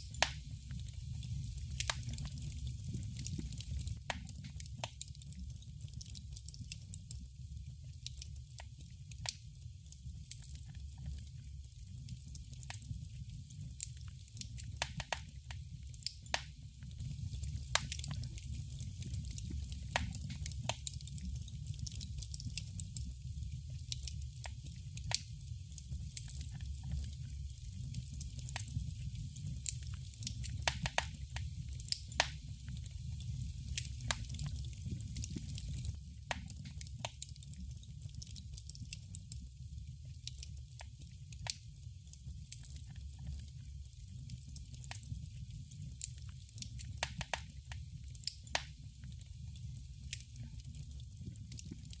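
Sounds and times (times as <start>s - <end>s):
low rumble of flames: 0.0s - 52.0s
wood fire crackling: 0.0s - 52.0s.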